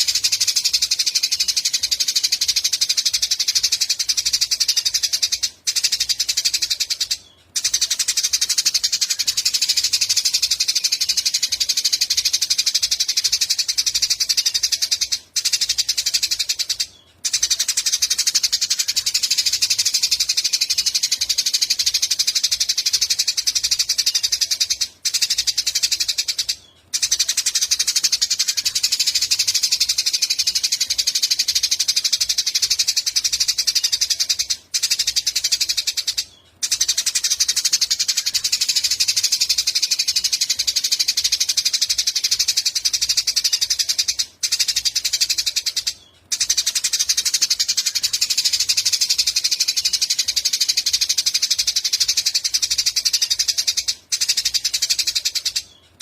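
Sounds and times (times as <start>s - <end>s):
songbird chattering: 0.0s - 56.0s.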